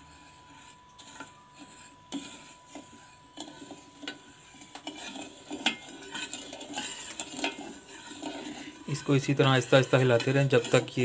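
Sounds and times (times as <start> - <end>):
spoon scraping saucepan: 0.0 - 11.0.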